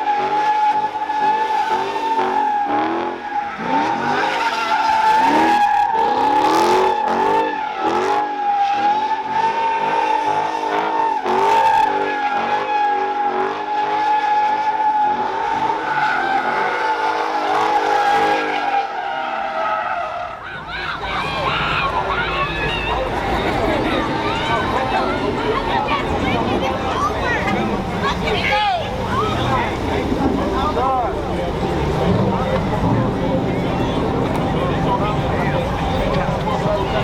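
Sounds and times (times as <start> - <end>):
engine revving: 0.0 - 14.0, 15.1 - 18.7, 20.8 - 37.0
car tires squealing: 0.0 - 37.0.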